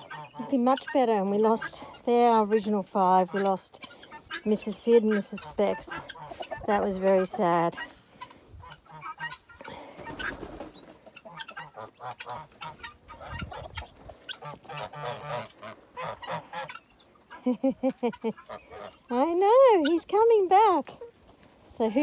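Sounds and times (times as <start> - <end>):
geese honking: 0.0 - 10.4, 11.1 - 17.4, 18.3 - 21.1
chickens clucking: 0.0 - 22.0.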